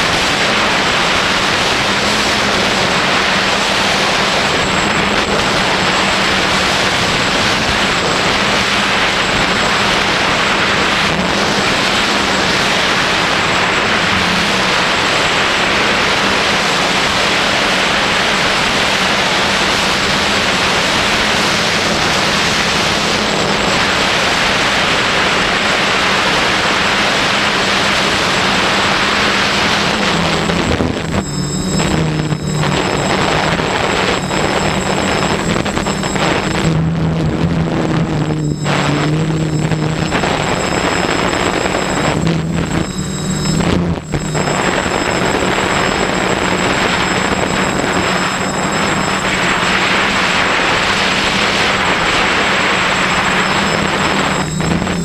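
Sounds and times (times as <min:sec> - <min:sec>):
drone motor buzzing hum: 0:00.0 - 0:55.0
propeller and wind rush: 0:00.0 - 0:55.0.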